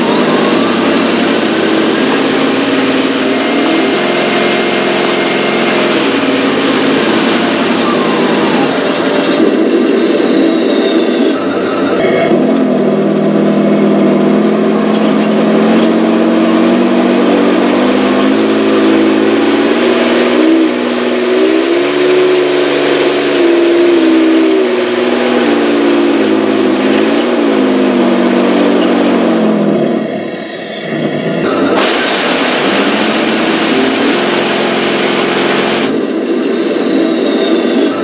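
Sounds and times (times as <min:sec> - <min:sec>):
simulated tank engine revving: 0:00.0 - 0:38.0.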